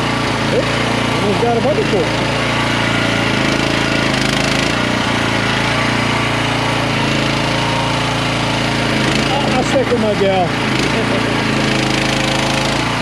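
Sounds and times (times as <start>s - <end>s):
excavator digging packed ground: 0.0s - 13.0s
small gasoline engine running: 0.0s - 13.0s.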